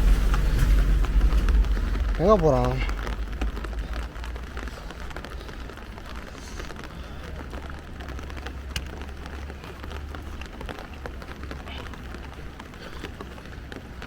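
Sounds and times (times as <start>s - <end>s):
low steady rumble: 0.0s - 14.0s
raindrops striking close: 0.0s - 14.0s.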